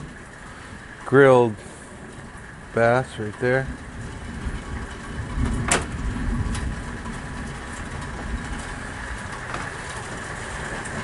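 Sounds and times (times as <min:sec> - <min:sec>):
rain hissing: 0:00.0 - 0:11.0
low rumble: 0:01.8 - 0:11.0.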